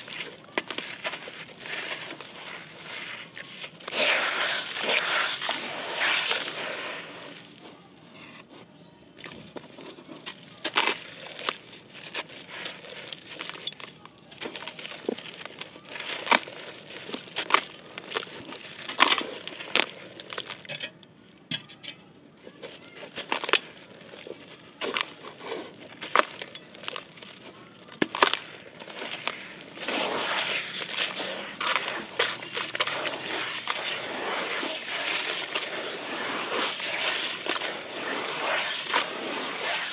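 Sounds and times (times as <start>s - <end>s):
wet sand squelching: 0.0s - 7.8s, 9.2s - 20.6s, 22.9s - 39.9s
gritty chunks crackling and crunching: 0.0s - 8.6s, 9.2s - 21.5s, 22.4s - 39.9s.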